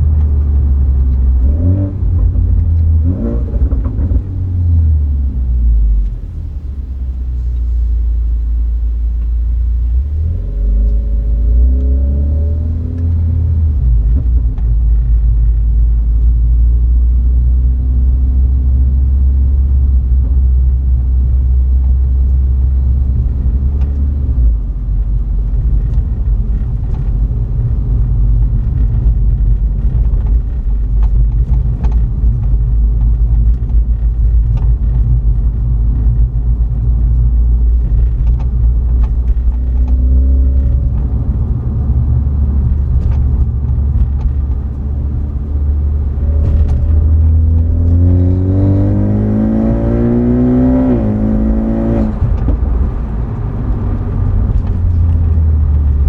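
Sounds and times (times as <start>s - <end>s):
car engine and exhaust rumble: 0.0s - 56.0s.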